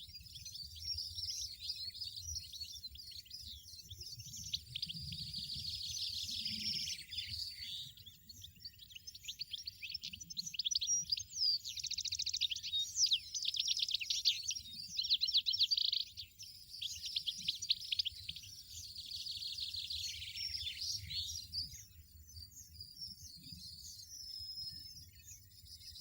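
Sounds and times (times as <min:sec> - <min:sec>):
finch singing high twitters: 0:00.0 - 0:26.0.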